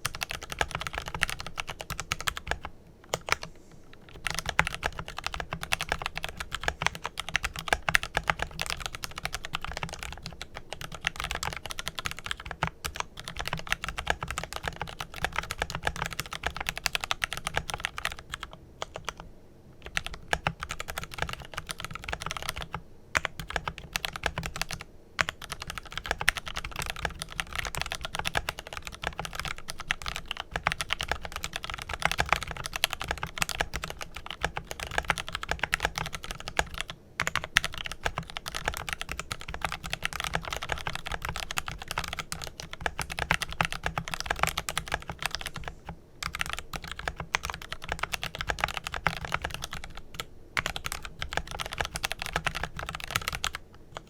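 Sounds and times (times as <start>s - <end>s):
mechanical keyboard typing: 0.0s - 19.2s, 19.8s - 54.0s.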